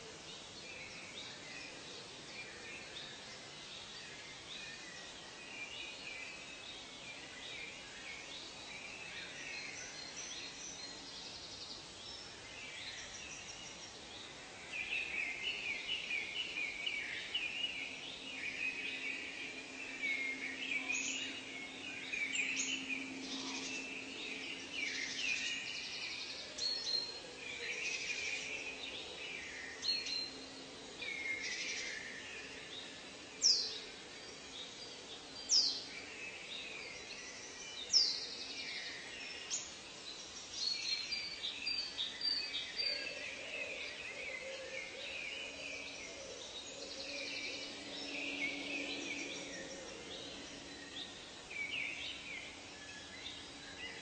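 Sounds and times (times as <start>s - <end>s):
birds chirping and singing: 0.0s - 54.0s
steady background hiss: 0.0s - 54.0s.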